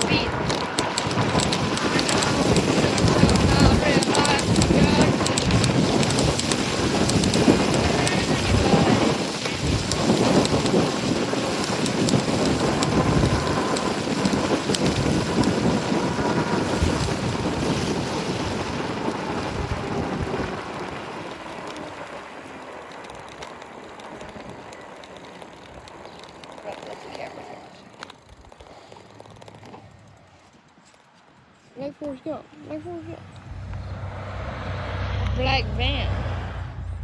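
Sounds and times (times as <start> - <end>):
wind buffeting microphone: 0.0 - 30.4.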